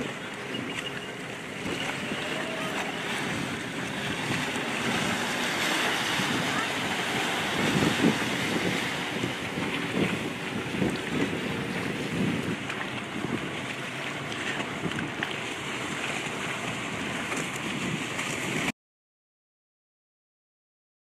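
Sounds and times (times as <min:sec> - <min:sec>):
choppy sea water: 0:00.0 - 0:18.7
wind gusting on microphone: 0:00.0 - 0:18.7.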